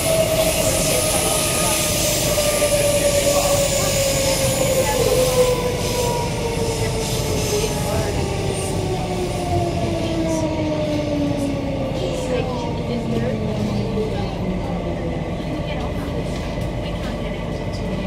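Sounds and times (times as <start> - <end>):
train traction motor whine: 0.0 - 15.2
wheels rumbling on track: 0.0 - 18.0.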